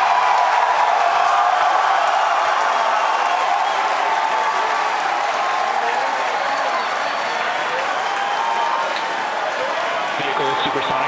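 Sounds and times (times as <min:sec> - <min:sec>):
crowd applauding and cheering: 0:00.0 - 0:11.0.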